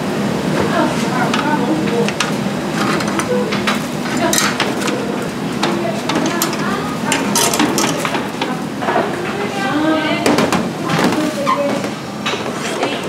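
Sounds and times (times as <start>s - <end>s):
indistinct kitchen voices: 0.0s - 13.0s.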